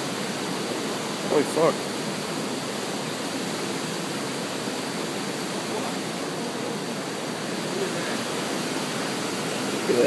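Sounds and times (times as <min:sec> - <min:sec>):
outdoor ambient rushing hiss: 0:00.0 - 0:10.0.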